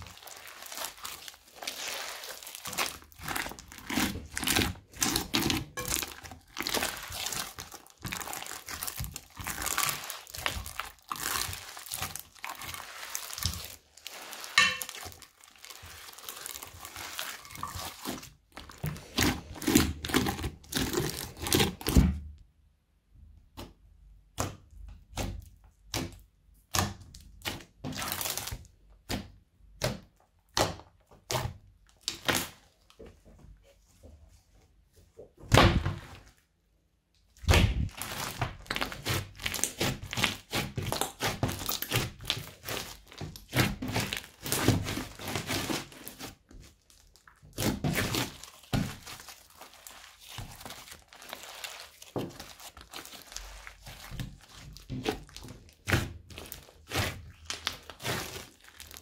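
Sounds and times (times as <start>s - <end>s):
crunchy slime crackling and squishing: 0.0s - 22.5s, 23.8s - 33.0s, 35.6s - 59.0s.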